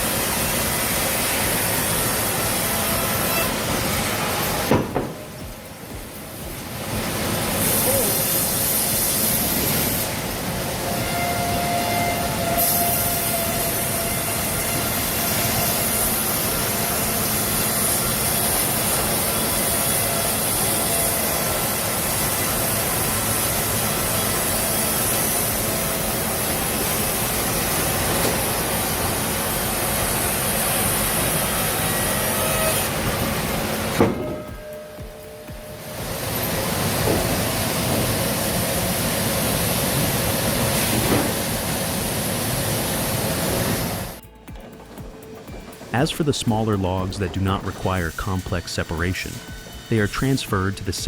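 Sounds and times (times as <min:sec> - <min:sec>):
sawmill machinery running: 0:00.0 - 0:51.0.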